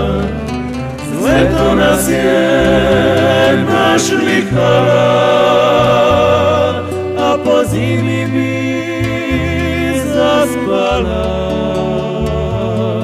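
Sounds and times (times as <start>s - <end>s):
male vocal ensemble in harmony: 0.0s - 13.0s.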